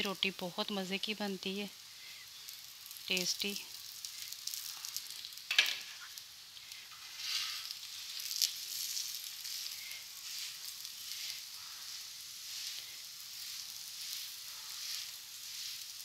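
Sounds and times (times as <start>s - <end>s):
bread sizzling in ghee: 0.0s - 16.0s.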